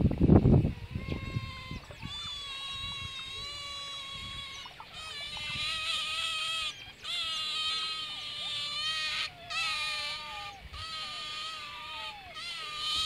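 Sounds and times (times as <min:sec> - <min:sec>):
otters squealing: 0:00.8 - 0:13.0.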